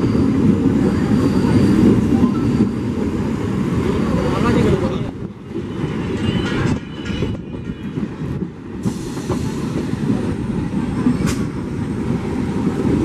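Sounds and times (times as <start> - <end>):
train rumbling over rails: 0.0 - 13.0.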